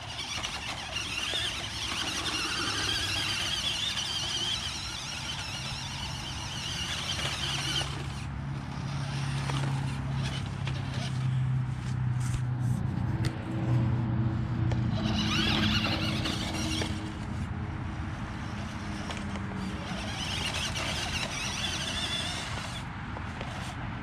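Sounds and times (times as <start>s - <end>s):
toy truck electric motor whining: 0.0s - 11.9s, 14.4s - 23.8s.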